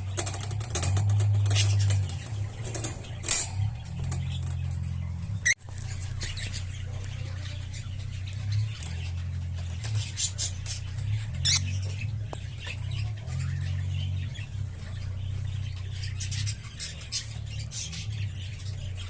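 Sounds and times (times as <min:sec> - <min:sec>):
lovebirds chirping and squeaking: 0:00.0 - 0:19.0
steady low hum: 0:00.0 - 0:19.0.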